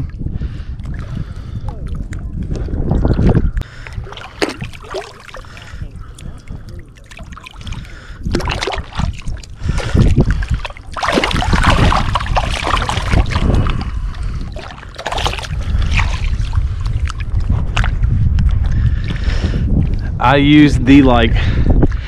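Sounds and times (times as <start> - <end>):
water sloshing and splashing: 0.0 - 20.1
wind rumbling on microphone: 0.0 - 22.0.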